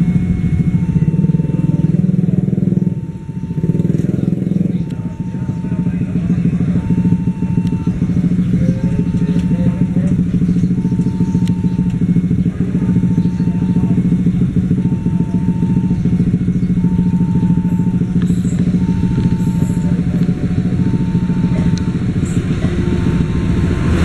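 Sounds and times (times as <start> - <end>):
level crossing warning tone: 0.0 - 24.0
locomotive engine droning: 0.0 - 24.0.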